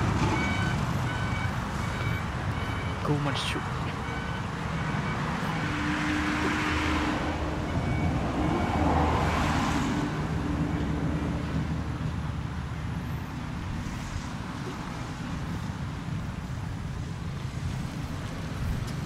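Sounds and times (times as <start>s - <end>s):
vehicles passing by: 0.0s - 19.0s.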